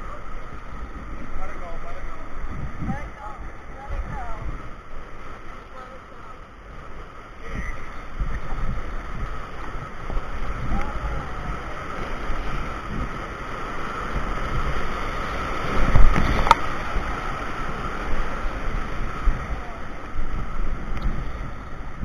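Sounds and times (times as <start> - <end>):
whitewater rapids rushing: 0.0 - 22.0
wind buffeting microphone: 0.0 - 22.0.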